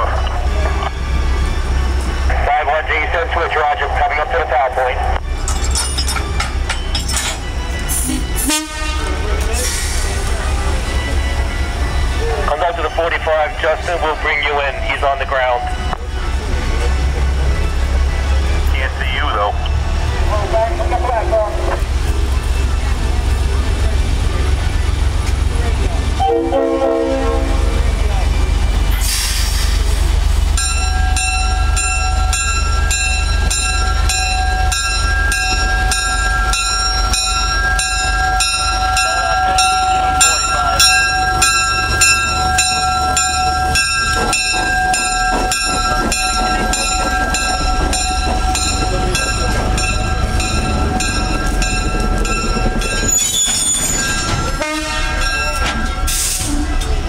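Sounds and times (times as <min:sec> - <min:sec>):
locomotive bell ringing: 0:00.0 - 0:28.9, 0:29.7 - 0:57.0
train rumbling past: 0:00.0 - 0:57.0.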